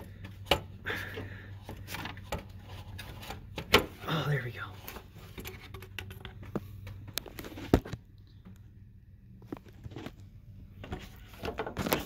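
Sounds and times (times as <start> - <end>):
engine parts clicking and knocking: 0.0 - 12.0.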